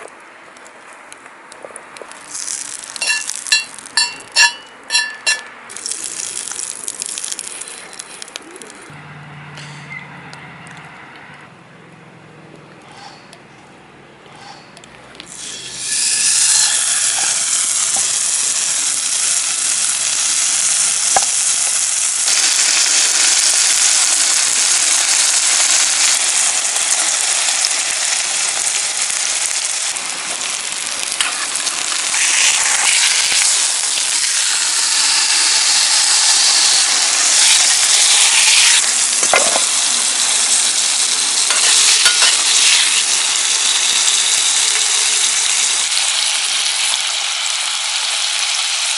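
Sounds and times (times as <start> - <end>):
meat sizzling over campfire: 1.8 - 8.9, 15.2 - 48.9.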